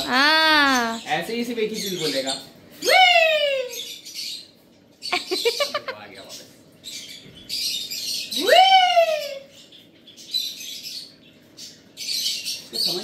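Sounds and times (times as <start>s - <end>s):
parakeets squawking: 0.0s - 2.6s, 3.7s - 13.0s.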